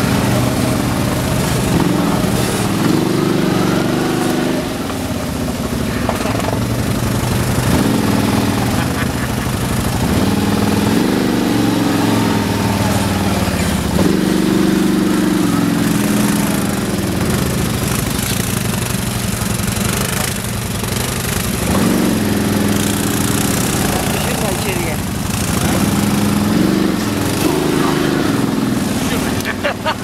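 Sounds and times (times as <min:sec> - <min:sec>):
atv engines revving: 0:00.0 - 0:30.0.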